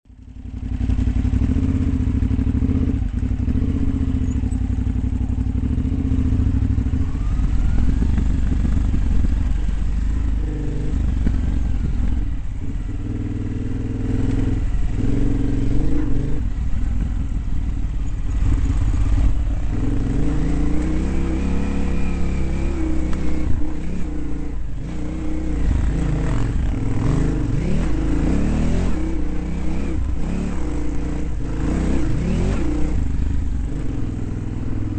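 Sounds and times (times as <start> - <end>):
dirt bike engine revving: 0.6 - 34.9.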